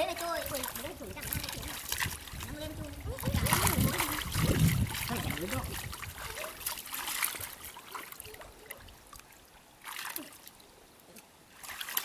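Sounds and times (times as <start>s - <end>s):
muddy water splashing and sloshing: 0.0s - 12.0s.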